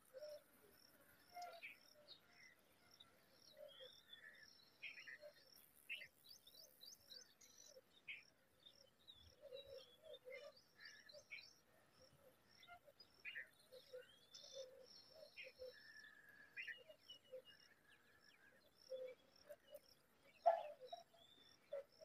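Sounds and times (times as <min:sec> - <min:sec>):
wild birds chirping: 0:00.0 - 0:22.0.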